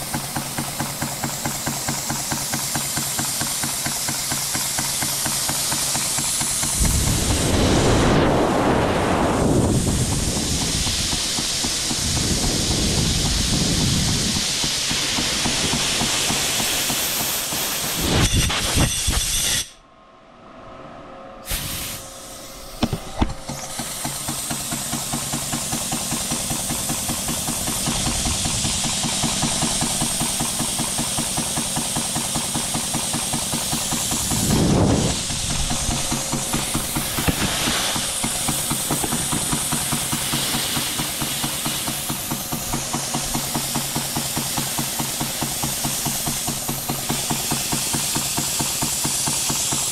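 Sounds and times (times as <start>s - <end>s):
model steam engine hissing and beating: 0.0s - 19.8s, 21.4s - 49.9s.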